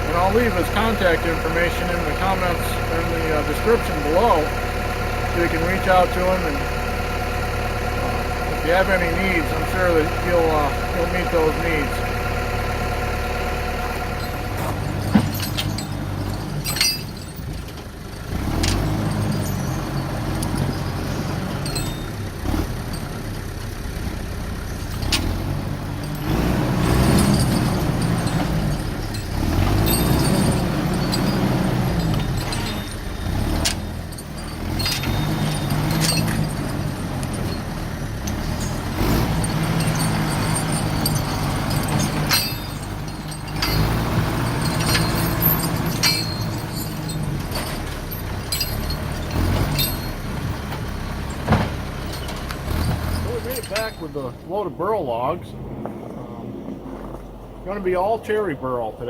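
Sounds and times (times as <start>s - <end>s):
knocks and rattles: 0.0s - 23.3s, 24.8s - 54.4s
vehicle engine revving: 0.0s - 59.0s.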